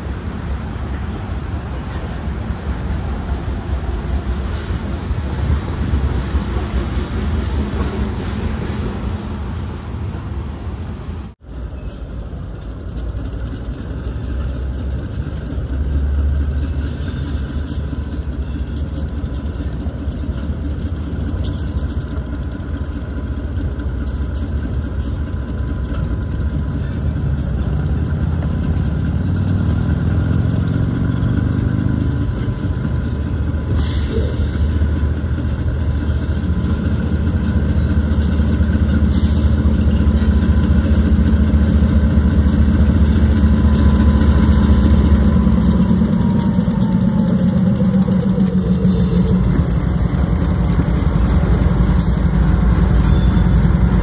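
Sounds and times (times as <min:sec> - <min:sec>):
diesel locomotive engines droning: 0:00.0 - 0:54.0.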